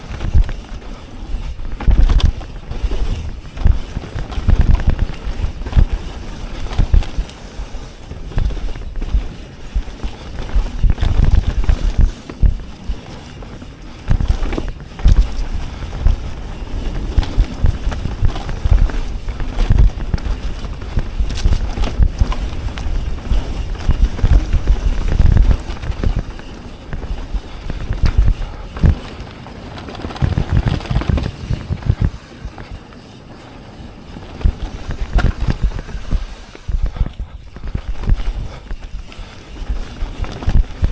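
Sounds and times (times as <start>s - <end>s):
bike thumps and rattles: 0.0s - 33.2s, 34.1s - 40.9s
wind buffeting microphone: 0.0s - 40.9s.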